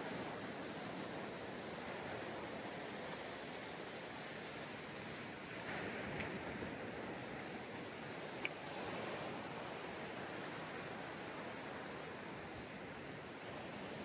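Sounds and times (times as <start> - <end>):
ocean waves on a beach: 0.0 - 14.0.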